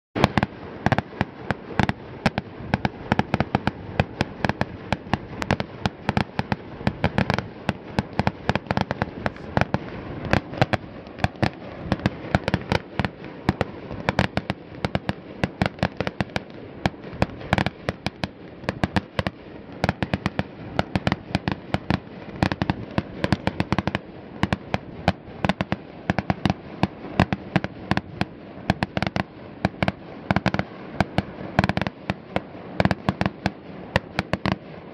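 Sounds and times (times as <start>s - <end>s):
fireworks bangs and pops: 0.2s - 34.9s.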